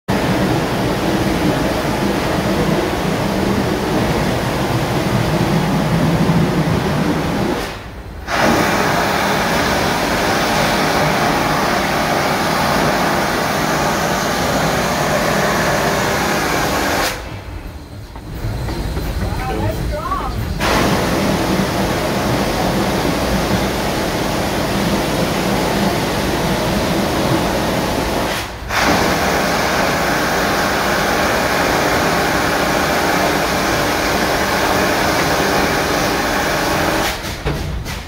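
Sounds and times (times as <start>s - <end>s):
steam hiss: 0.1s - 38.0s
steam locomotive exhaust chugging: 0.1s - 38.0s.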